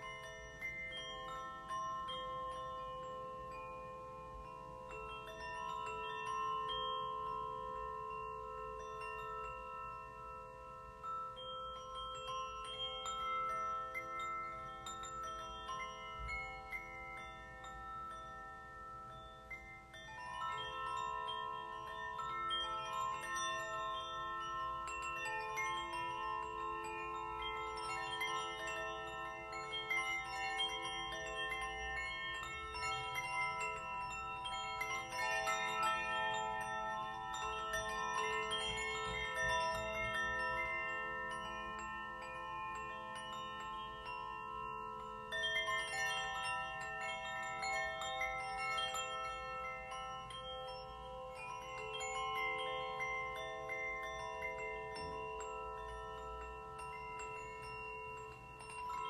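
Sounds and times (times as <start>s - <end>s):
metal chimes ringing: 0.0s - 59.0s.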